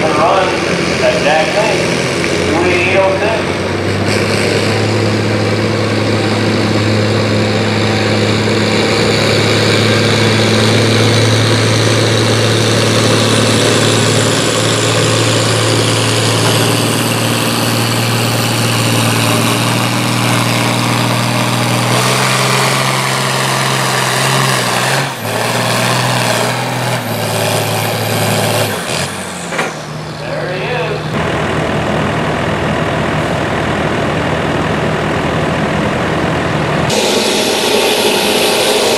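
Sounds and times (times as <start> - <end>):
engine running hard under load: 0.0 - 38.9.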